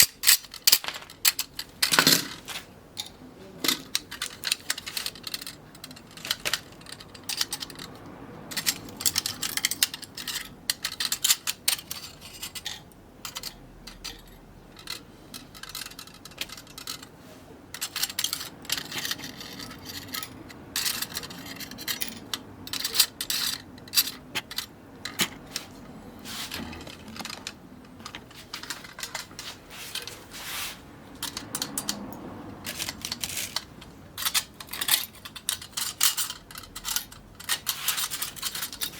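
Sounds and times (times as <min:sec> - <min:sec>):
metallic clinks and crackles: 0:00.0 - 0:30.4, 0:31.1 - 0:38.9.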